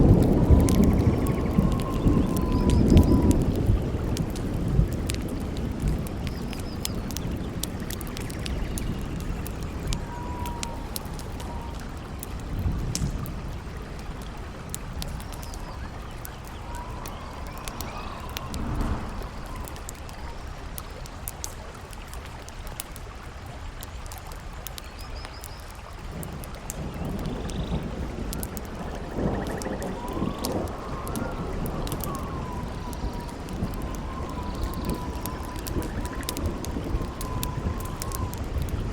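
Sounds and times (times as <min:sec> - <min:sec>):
howling wind whistle: 0:00.0 - 0:21.8, 0:26.2 - 0:38.9
campfire crackling and popping: 0:00.0 - 0:38.9
low wind rumble: 0:00.0 - 0:38.9.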